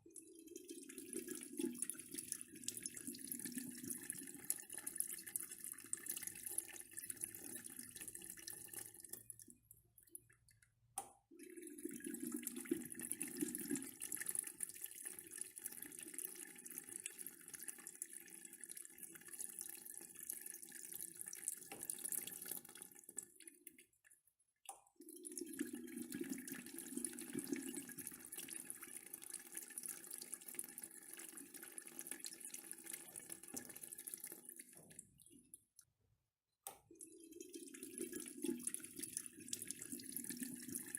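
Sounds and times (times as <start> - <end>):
urinal flushing: 0.2 - 9.3, 11.3 - 23.2, 25.0 - 35.4, 36.8 - 40.9.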